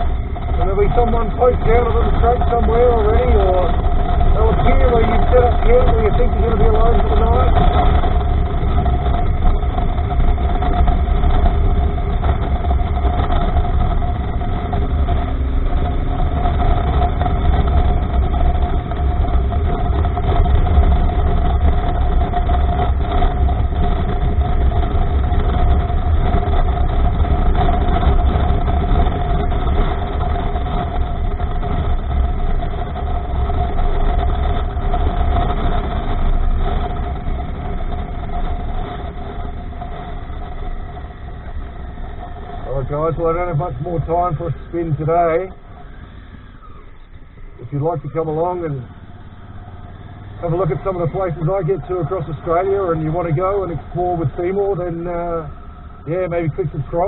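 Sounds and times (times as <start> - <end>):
motorcycle engine whining: 0.0 - 57.0
wind rumble on microphone: 0.0 - 57.0.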